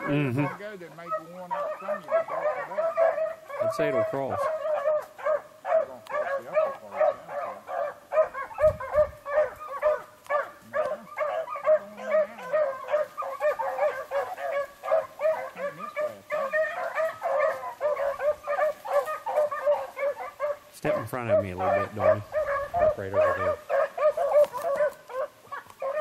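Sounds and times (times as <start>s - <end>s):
pack of dogs baying: 0.0s - 26.0s.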